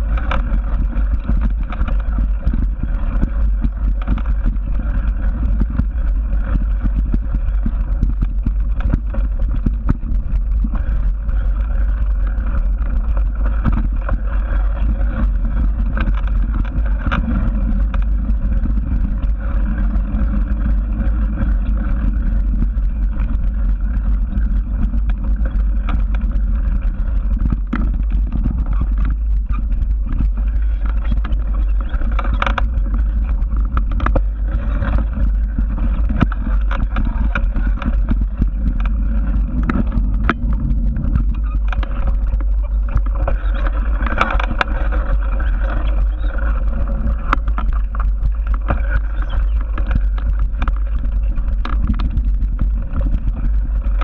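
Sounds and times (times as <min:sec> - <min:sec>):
small rattles and knocks: 0:00.0 - 0:54.0
wind rumble on microphone: 0:00.0 - 0:54.0.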